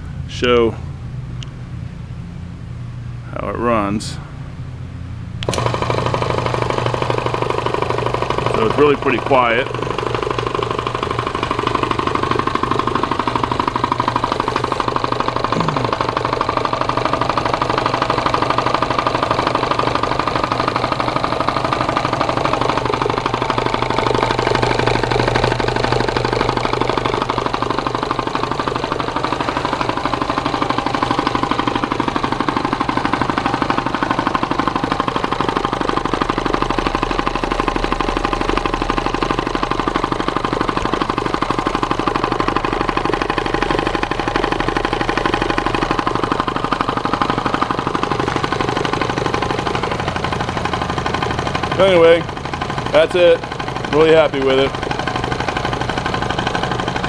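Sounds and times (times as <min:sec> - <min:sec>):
air compressor chugging: 0:02.8 - 0:57.0.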